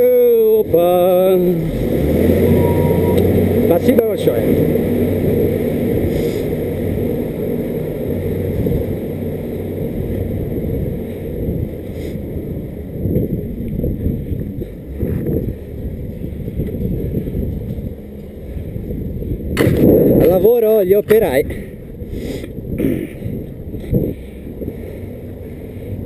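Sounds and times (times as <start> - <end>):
wind buffeting the microphone: 0.7 - 26.0.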